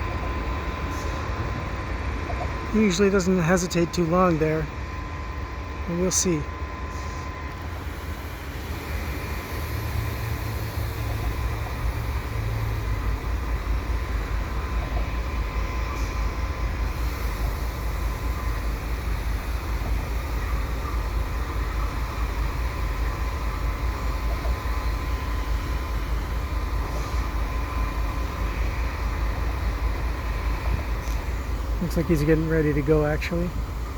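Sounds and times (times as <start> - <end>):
diesel locomotives idling: 0.0 - 33.9
thin steady whine: 0.0 - 33.9.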